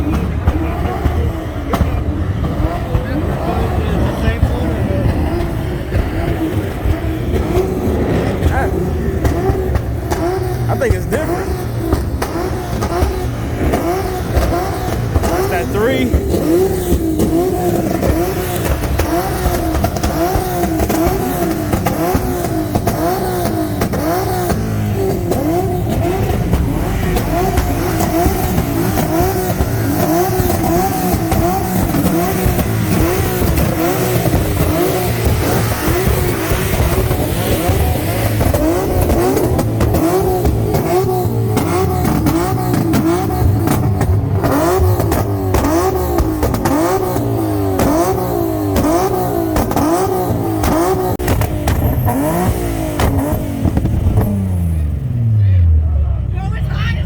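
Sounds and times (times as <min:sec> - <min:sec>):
car engine revving in blips: 0:00.0 - 0:57.0
idling engines rumble: 0:00.0 - 0:57.0.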